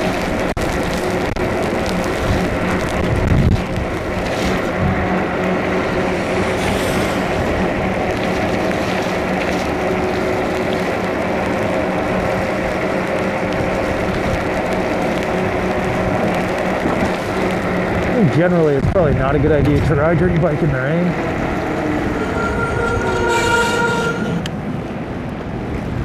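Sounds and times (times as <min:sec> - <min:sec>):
constant low hum: 0:00.0 - 0:26.0
wind and wet tyres rushing: 0:00.0 - 0:26.0.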